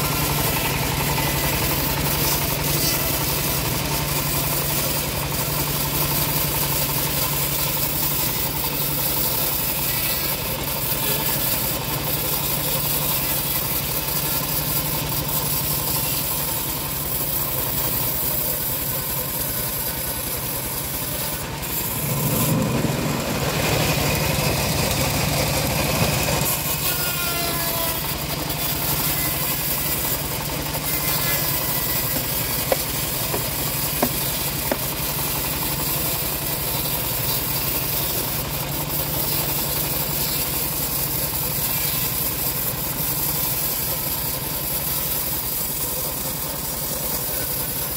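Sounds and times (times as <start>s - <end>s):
band blade sawing log: 0.0s - 47.9s
sawmill motor humming: 0.0s - 47.9s.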